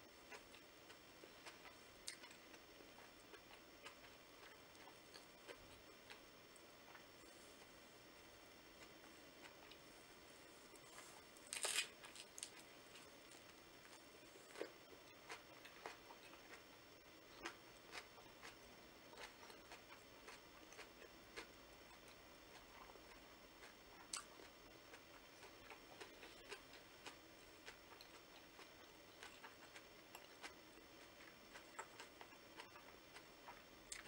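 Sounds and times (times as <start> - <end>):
chewing spring roll: 0.3 - 6.2, 10.7 - 16.7, 17.3 - 34.0.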